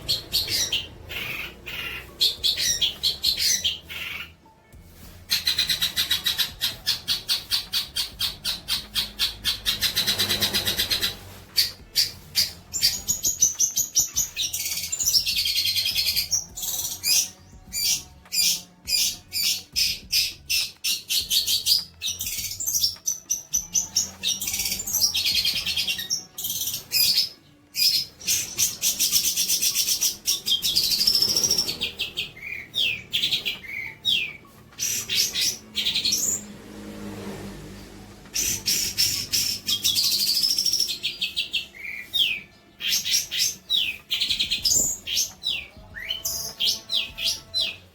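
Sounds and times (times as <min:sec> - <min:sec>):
songbird chirping and whistling: 0:00.0 - 0:36.6, 0:38.2 - 0:47.9.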